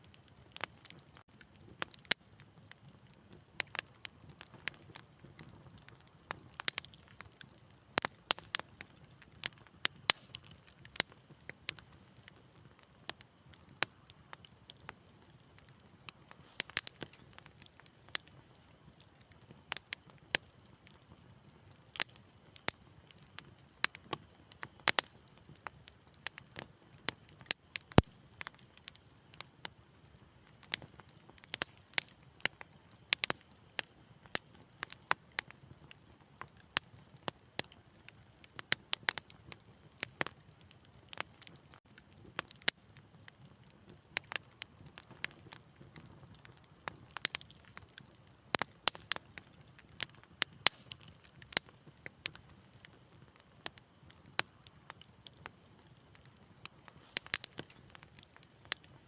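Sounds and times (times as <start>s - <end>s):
low hiss of burning: 0.0s - 59.0s
wood fire crackling and popping: 0.0s - 59.0s.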